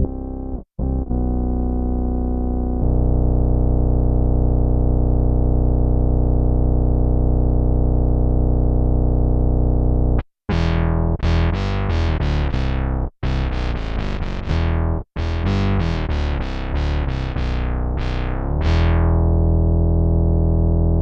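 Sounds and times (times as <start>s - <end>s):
held synth bass note: 0.0s - 21.0s.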